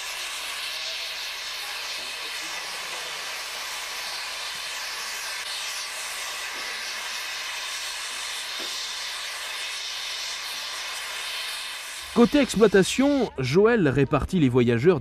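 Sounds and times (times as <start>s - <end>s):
steam hissing from locomotive: 0.0s - 13.4s.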